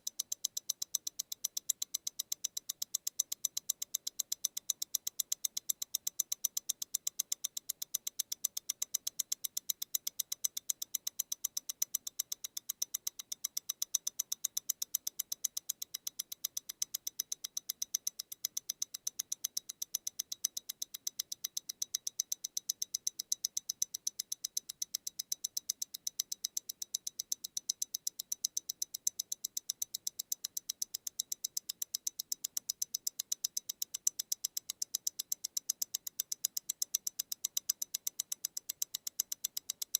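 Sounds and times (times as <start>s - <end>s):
wristwatch ticking: 0.0s - 39.9s.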